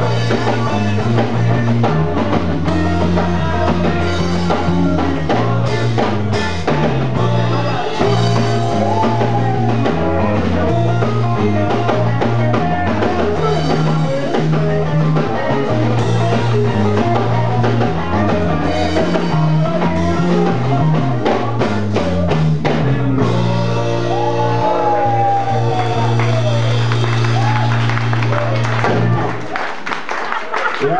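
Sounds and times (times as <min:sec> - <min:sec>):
person singing: 0:00.0 - 0:26.5
electric guitar: 0:00.0 - 0:29.6
bass guitar: 0:00.0 - 0:30.0
drum kit: 0:00.0 - 0:30.1.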